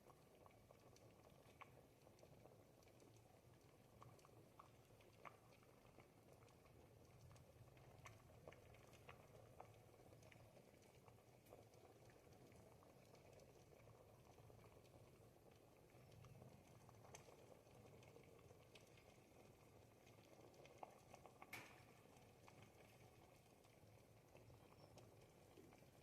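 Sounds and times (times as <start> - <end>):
soup bubbling and popping: 0.0 - 26.0.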